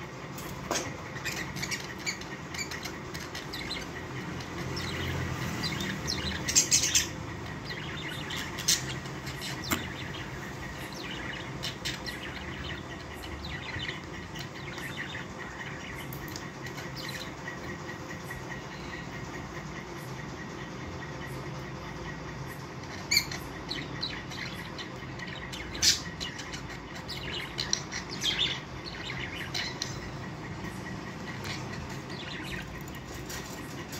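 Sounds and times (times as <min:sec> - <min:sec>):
budgerigars chirping and squawking: 0:00.4 - 0:33.9.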